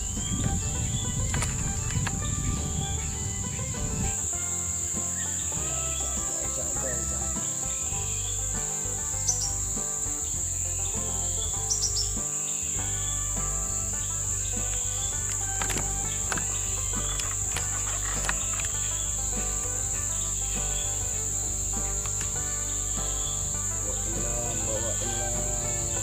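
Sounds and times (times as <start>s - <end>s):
insects droning: 0.0s - 26.0s
music: 0.0s - 26.0s.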